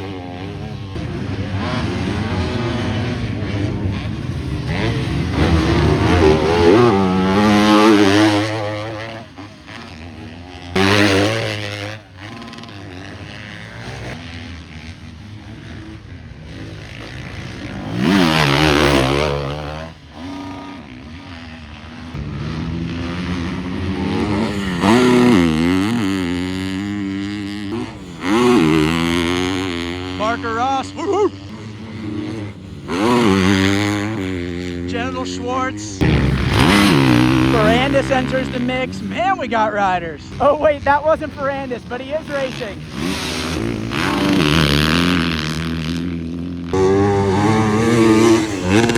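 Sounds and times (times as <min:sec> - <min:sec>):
dirt bikes revving: 0:00.0 - 0:48.9.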